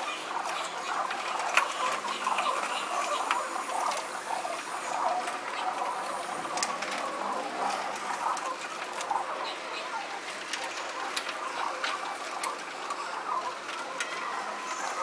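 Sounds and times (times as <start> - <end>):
pigeons pecking on tiles: 0.0 - 15.0.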